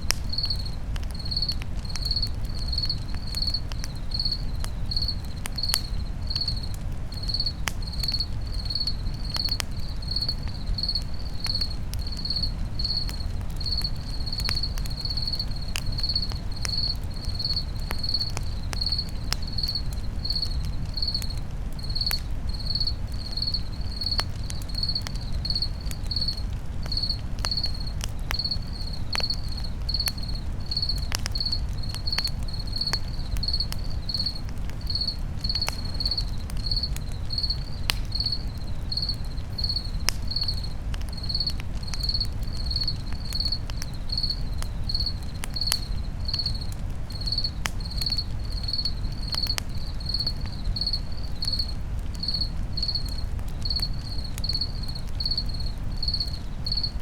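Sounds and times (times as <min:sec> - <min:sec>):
campfire crackling and popping: 0:00.0 - 0:57.0
crickets chirping: 0:00.0 - 0:57.0.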